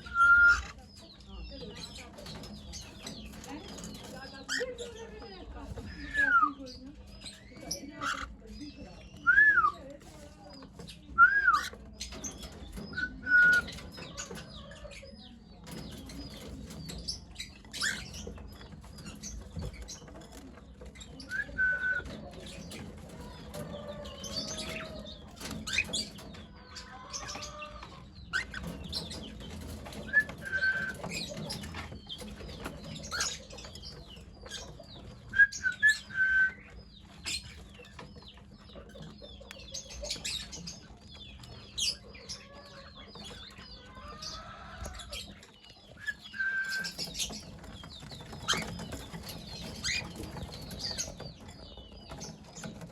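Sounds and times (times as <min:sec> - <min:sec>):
clicks and rustles: 0:09.8 - 0:52.9.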